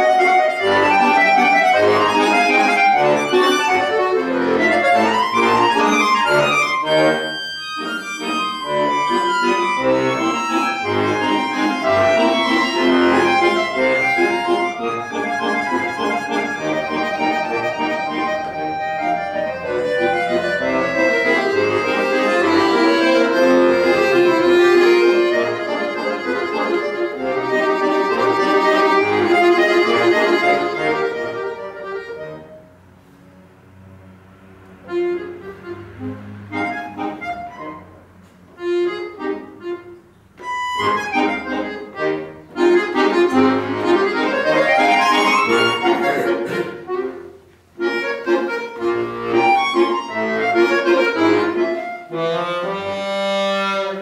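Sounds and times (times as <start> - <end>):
button accordion playing: 0.0 - 33.6, 34.5 - 54.0.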